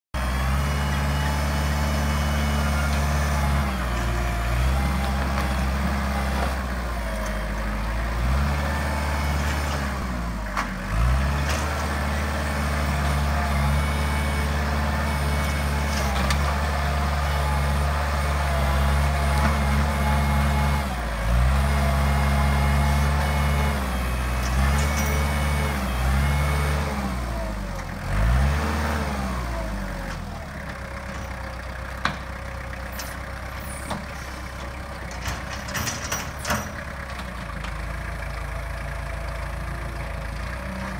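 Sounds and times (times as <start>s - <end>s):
loader bucket digging dirt: 0.2s - 40.9s
tractor engine running under load: 0.2s - 40.9s.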